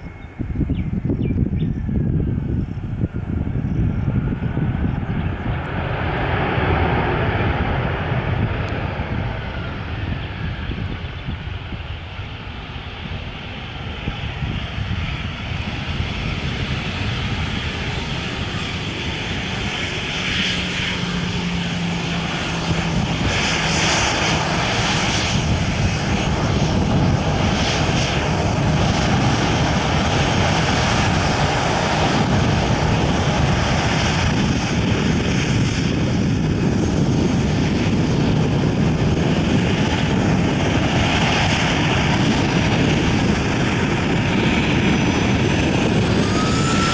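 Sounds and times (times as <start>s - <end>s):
jet engine roar: 0.0s - 46.9s.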